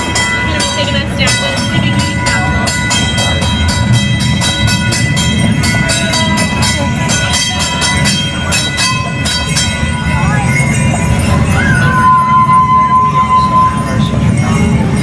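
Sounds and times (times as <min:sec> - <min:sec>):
streetcar wheels rumbling on rails: 0:00.0 - 0:15.0.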